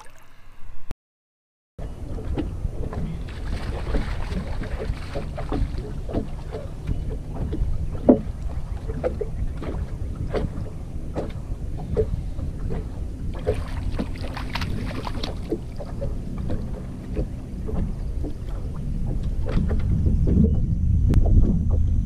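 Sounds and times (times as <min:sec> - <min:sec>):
water slapping against hull: 0:01.8 - 0:22.0
wind buffeting microphone: 0:01.8 - 0:22.0
knocks on boat: 0:02.2 - 0:21.8.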